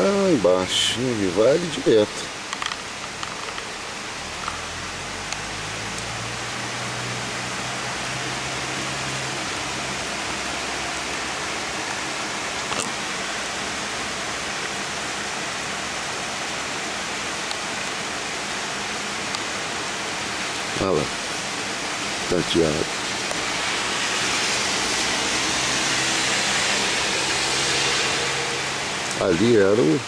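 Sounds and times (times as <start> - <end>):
heavy rain on a street: 0.0 - 30.0.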